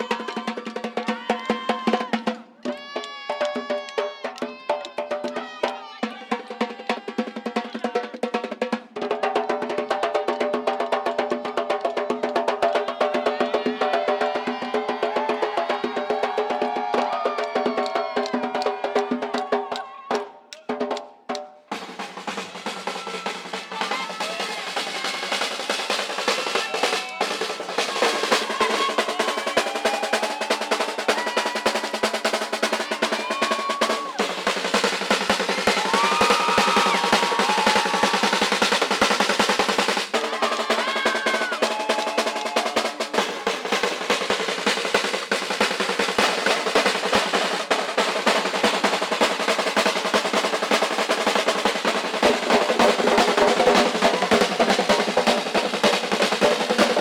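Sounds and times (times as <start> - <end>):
samba percussion ensemble: 0.0 - 57.0.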